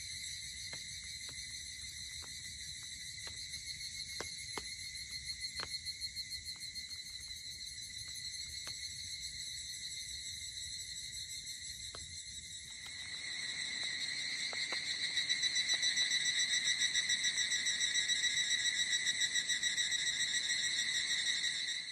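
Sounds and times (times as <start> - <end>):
campfire crackles: 0.0 - 20.5
insects trilling: 0.0 - 21.9.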